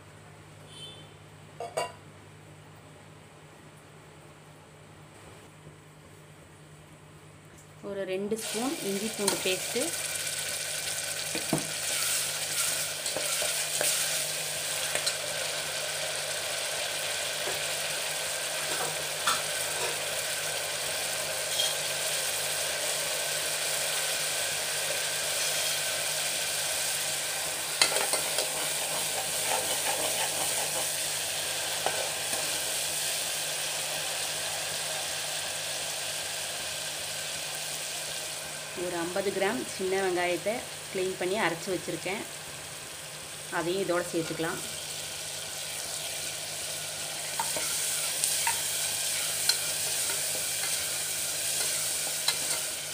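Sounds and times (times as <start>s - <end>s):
paste sizzling in hot oil: 8.4s - 52.9s.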